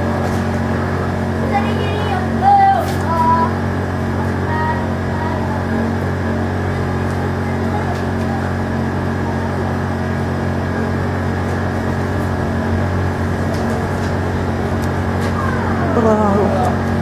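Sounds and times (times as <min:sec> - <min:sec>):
constant rushing noise: 0:00.0 - 0:17.0
steady low hum: 0:00.0 - 0:17.0.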